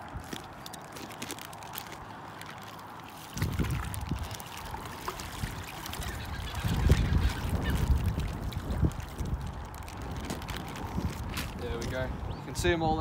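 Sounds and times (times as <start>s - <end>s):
plastic bag rustling: 0.1s - 6.8s, 7.4s - 12.0s
water sloshing and pouring: 0.1s - 11.6s.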